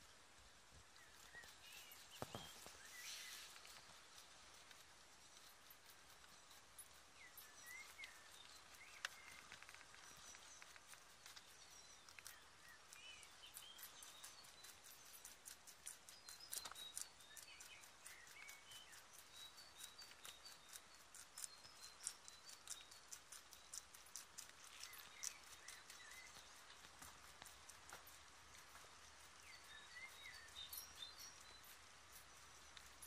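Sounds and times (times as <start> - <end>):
faint bird chirps: 0.0 - 33.0
rabbit chewing crunchily: 0.8 - 33.0.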